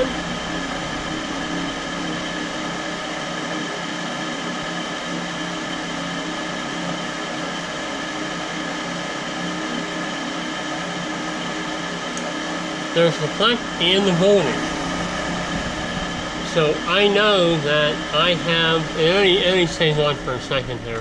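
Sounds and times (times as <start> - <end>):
furnace inducer motor humming: 0.0 - 21.0.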